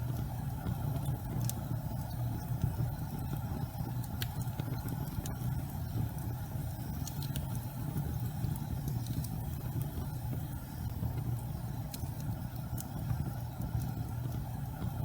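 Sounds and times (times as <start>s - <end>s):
faint fire crackles: 0.0s - 15.0s
fireplace fire rumbling: 0.0s - 15.0s.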